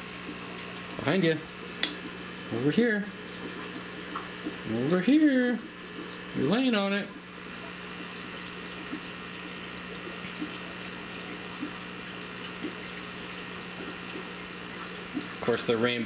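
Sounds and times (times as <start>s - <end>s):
low electrical hum from pumps: 0.0s - 16.0s
running water from aquarium filter: 0.0s - 16.0s.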